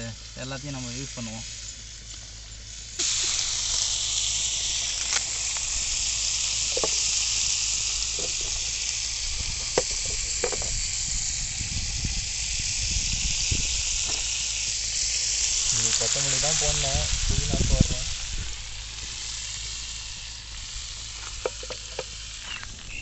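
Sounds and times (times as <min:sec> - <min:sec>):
food sizzling in hot oil: 0:00.0 - 0:23.0
oil popping and crackling: 0:00.0 - 0:23.0.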